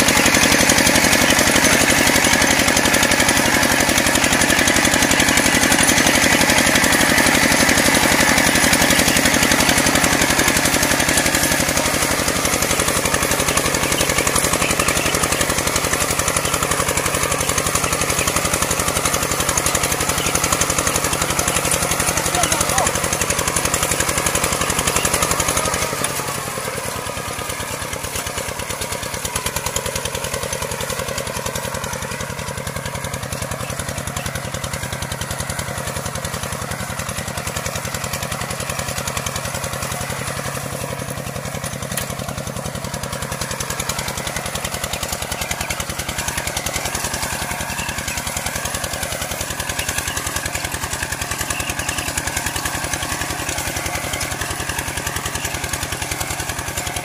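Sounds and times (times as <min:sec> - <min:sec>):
walk-behind tractor engine running: 0:00.0 - 0:57.0.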